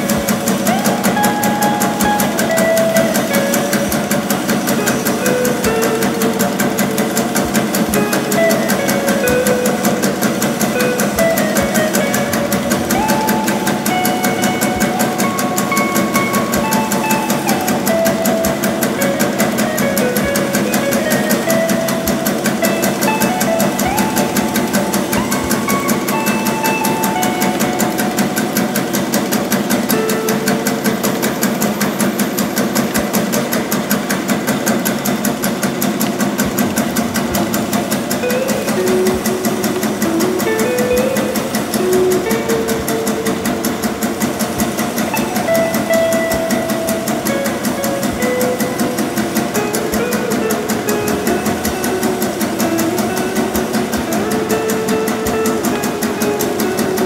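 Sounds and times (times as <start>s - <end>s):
machine hum: 0.0s - 57.0s
machine rapid clicking: 0.0s - 57.0s.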